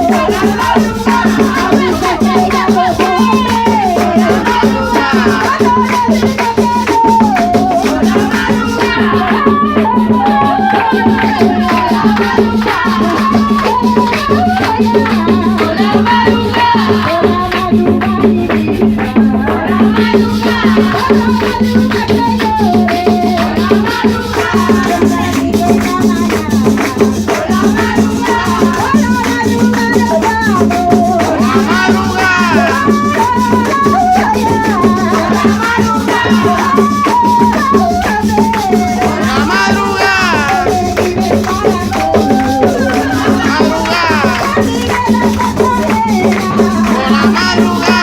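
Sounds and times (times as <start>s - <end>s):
shaken percussion: 0.0s - 48.0s.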